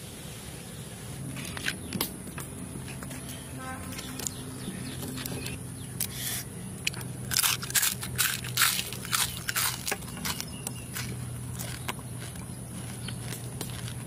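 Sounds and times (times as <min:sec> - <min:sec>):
crunchy chewing: 0:01.2 - 0:14.0.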